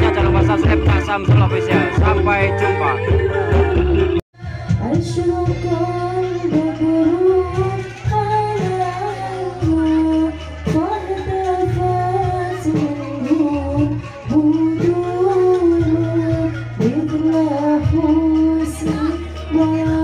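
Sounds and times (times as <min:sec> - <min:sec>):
low musical accompaniment: 0:00.0 - 0:20.0.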